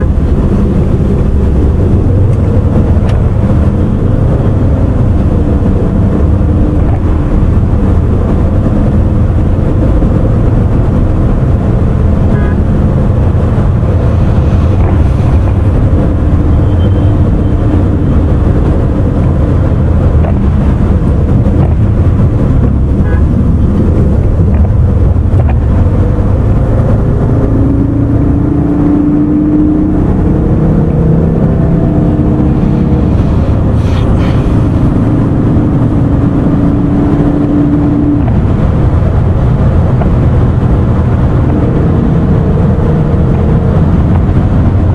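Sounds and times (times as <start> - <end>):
car engine: 0.0 - 44.9
road noise: 0.0 - 44.9.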